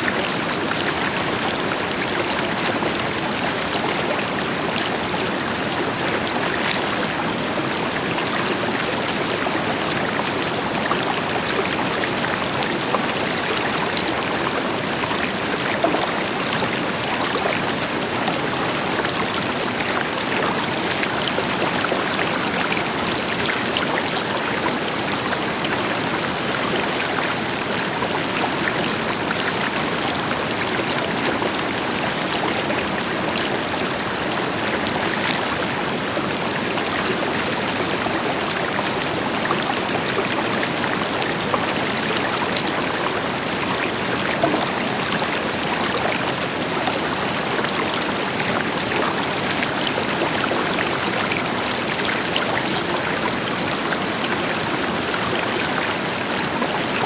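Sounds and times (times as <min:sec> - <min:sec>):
river splashing over stones: 0:00.2 - 0:57.0.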